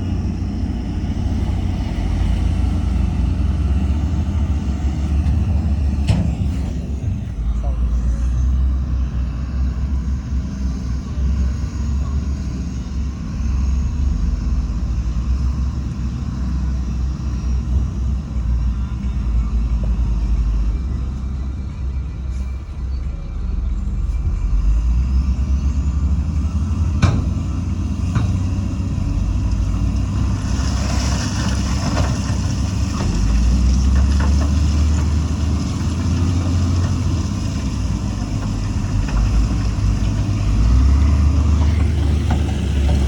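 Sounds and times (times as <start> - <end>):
heavy diesel engine under load: 0.0 - 43.0.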